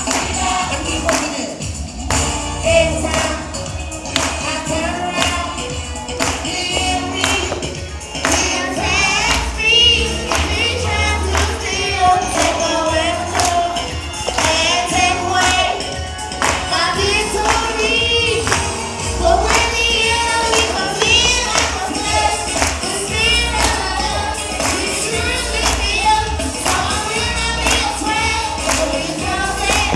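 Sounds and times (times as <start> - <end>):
band backing: 0.0 - 29.9
choir singing gospel song: 0.0 - 29.9.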